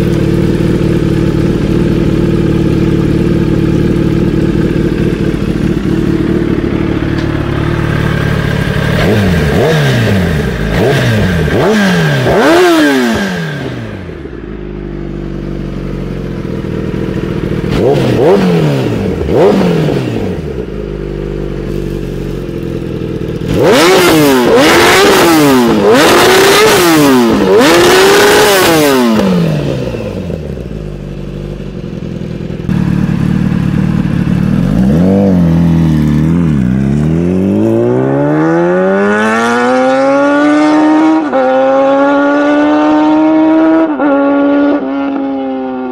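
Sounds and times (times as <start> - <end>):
motorcycle accelerating: 0.0 - 45.9
motorcycle engine revving: 0.0 - 45.9.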